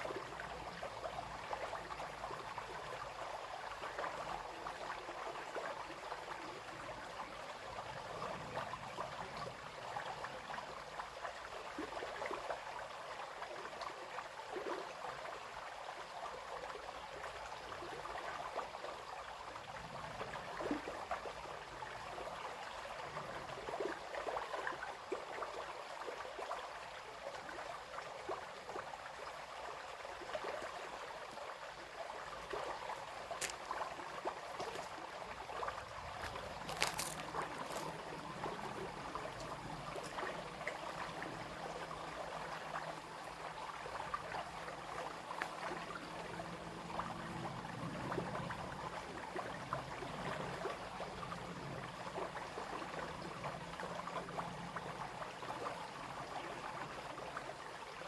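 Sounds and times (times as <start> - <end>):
brook babbling over stones: 0.0 - 58.0.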